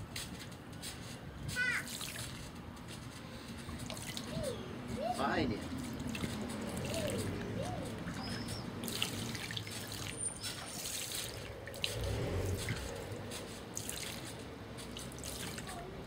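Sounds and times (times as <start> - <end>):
sharp drips: 1.7 - 15.9
water trickling and dripping: 1.8 - 16.0.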